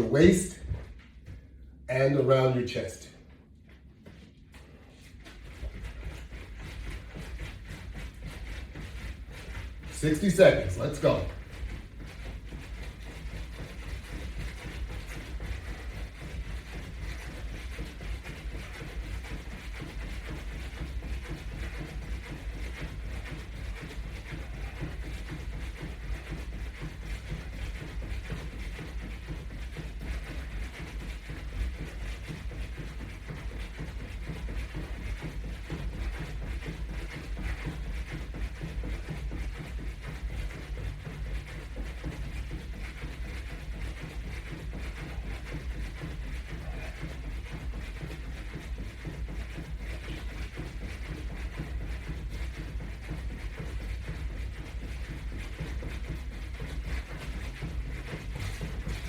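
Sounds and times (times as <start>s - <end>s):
footsteps jogging in place: 0.0s - 59.0s.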